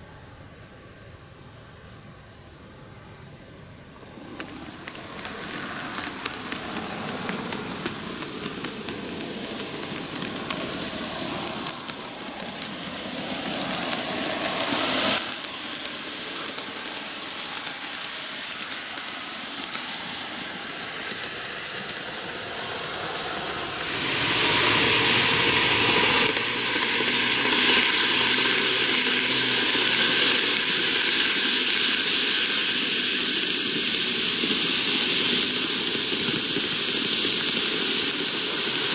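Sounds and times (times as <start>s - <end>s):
model train running hiss: 0.0s - 38.9s
wheels clicking on rails: 3.9s - 38.9s.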